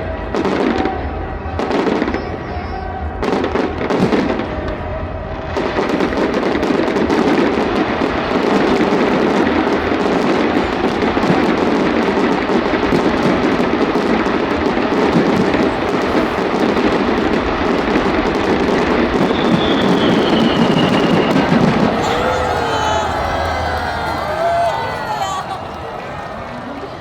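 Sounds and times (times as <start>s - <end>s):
fireworks crackling bursts: 0.1s - 27.0s.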